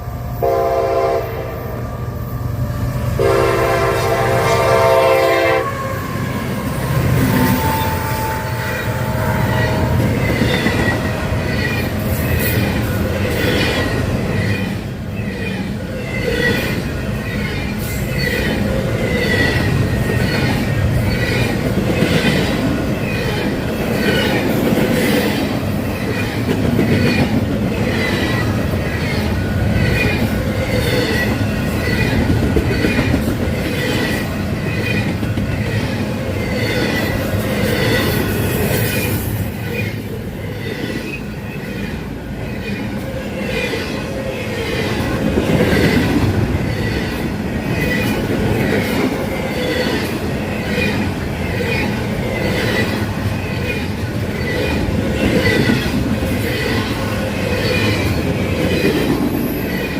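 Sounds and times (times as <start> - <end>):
train low rumble: 0.0 - 59.9
train wheels squealing: 5.6 - 59.9.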